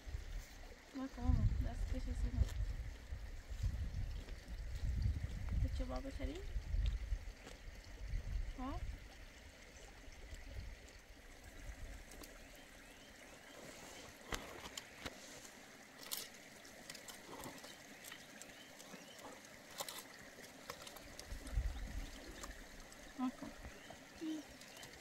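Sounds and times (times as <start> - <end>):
trickle of running water: 0.0 - 25.0.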